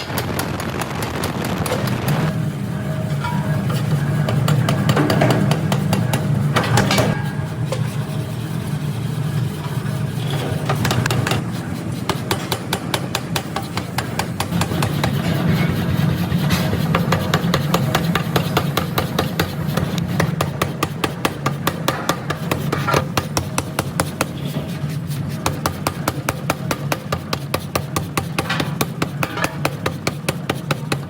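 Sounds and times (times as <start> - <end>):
factory machinery humming: 0.0 - 31.0.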